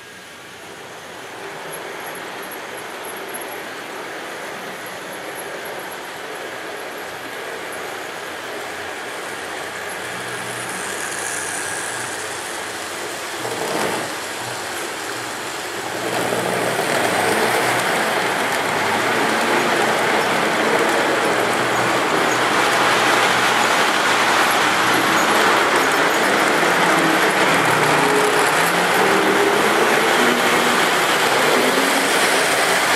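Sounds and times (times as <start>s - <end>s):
model train wheels rolling on rail: 0.0s - 32.9s.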